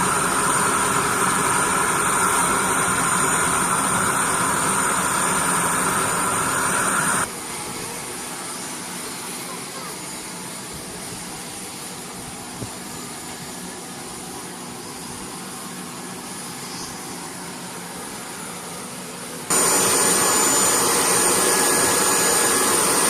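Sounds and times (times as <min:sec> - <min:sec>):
jet engines running with whine: 0:00.0 - 0:23.0.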